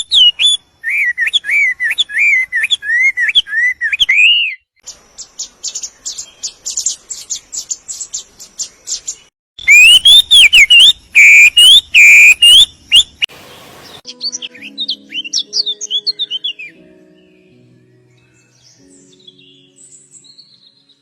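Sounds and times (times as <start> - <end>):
bird high chirps: 0.0 - 17.5.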